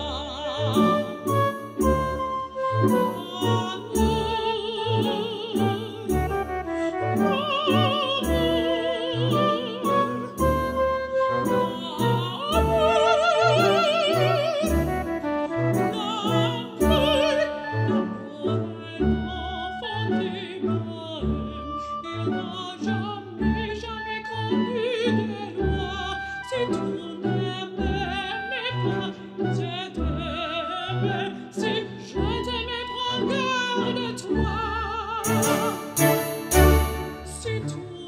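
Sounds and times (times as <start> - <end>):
operatic singing with orchestra: 0.0 - 38.0.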